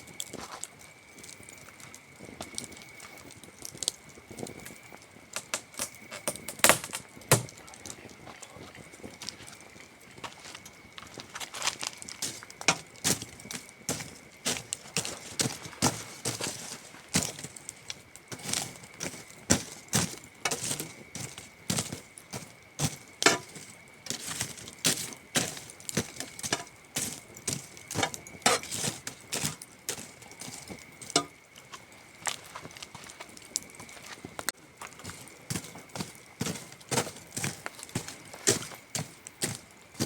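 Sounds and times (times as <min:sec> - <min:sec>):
campfire crackling and popping: 0:00.0 - 0:40.0
cricket trill: 0:00.0 - 0:40.0.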